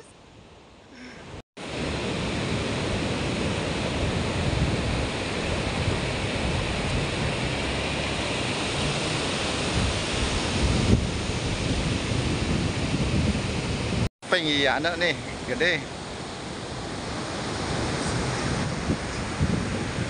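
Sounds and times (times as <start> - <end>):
surf breaking on beach: 1.6 - 20.0
wind buffeting microphone: 1.8 - 14.1, 16.2 - 20.0.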